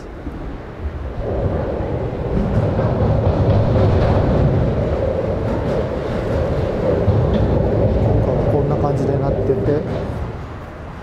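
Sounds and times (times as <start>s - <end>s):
train rumbling overhead: 0.0s - 11.0s.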